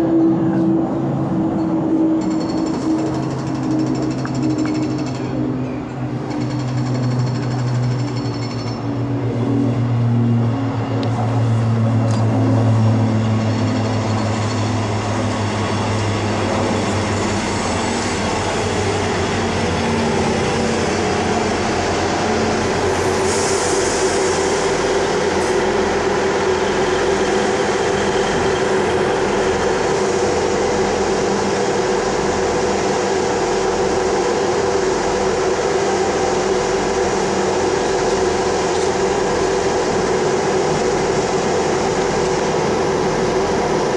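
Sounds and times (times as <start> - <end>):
train diesel engines droning: 0.0 - 43.9.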